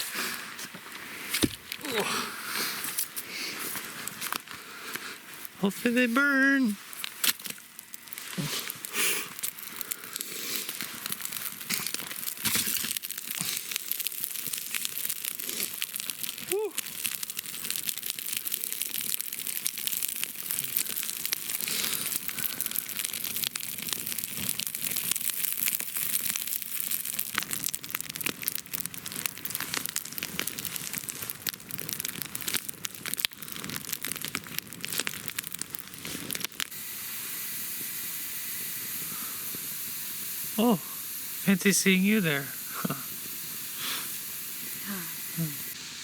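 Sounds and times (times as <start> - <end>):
campfire crackling: 0.0 - 46.0
fire hissing: 0.0 - 46.0.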